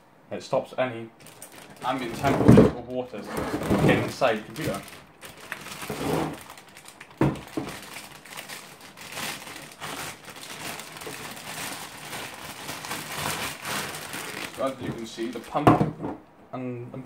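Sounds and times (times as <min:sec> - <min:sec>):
plastic bag crinkling: 0:01.2 - 0:15.8.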